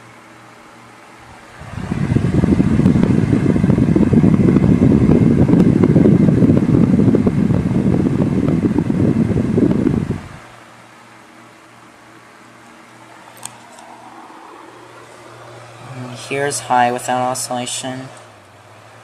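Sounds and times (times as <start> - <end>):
fan air buffeting microphone: 0.0 - 19.0.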